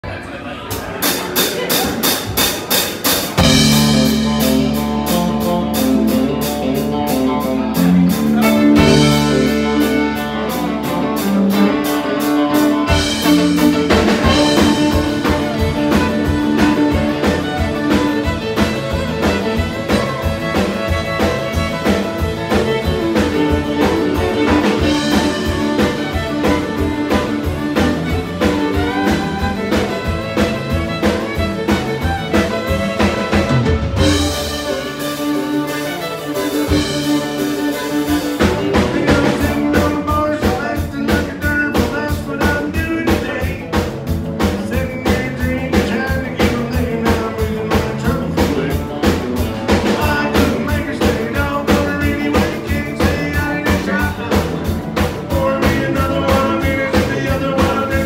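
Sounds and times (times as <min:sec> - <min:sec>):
acoustic guitar: 0:00.8 - 0:58.0
drum beat: 0:00.8 - 0:58.0
electric bass: 0:01.0 - 0:58.0
fiddle melody: 0:03.3 - 0:58.0.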